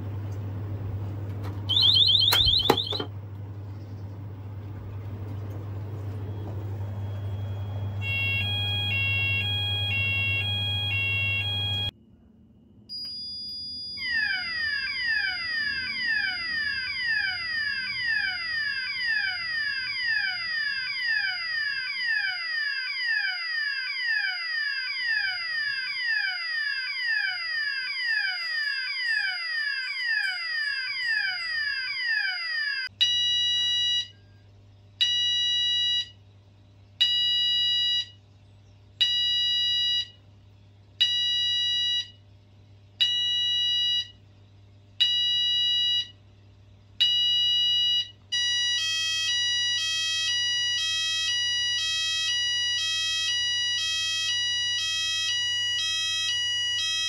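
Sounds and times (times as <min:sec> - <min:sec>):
fire alarm sounders: 0:01.7 - 0:03.1, 0:06.0 - 0:12.0, 0:12.9 - 0:34.2, 0:35.0 - 0:36.2, 0:37.0 - 0:38.2, 0:39.0 - 0:40.2, 0:41.0 - 0:42.2, 0:43.0 - 0:44.2, 0:45.0 - 0:46.2, 0:47.0 - 0:57.0.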